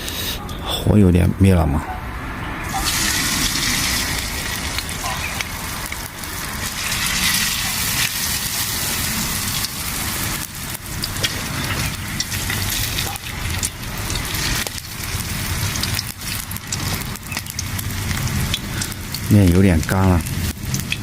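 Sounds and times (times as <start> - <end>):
wood fire crackling and hissing: 0.0 - 0.8, 2.6 - 21.0.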